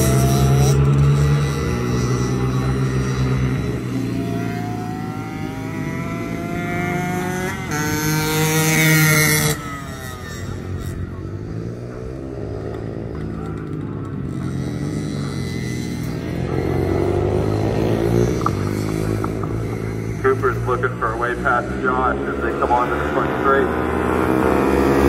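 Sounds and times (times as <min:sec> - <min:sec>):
distant motorcycles cornering: 0:00.0 - 0:25.0
race motorcycle engine passing: 0:00.0 - 0:25.0.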